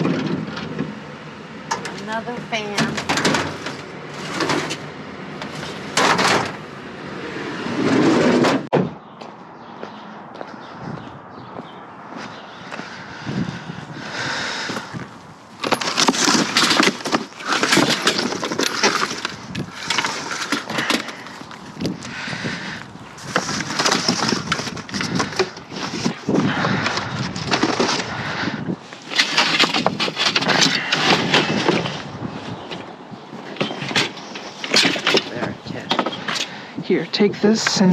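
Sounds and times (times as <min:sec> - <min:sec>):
junk clattering and scraping: 0:00.0 - 0:09.2, 0:13.5 - 0:37.9.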